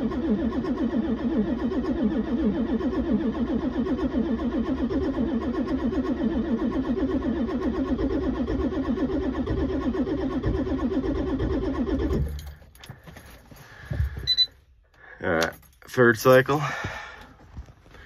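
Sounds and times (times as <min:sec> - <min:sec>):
engine cranking without starting: 0:00.0 - 0:14.7.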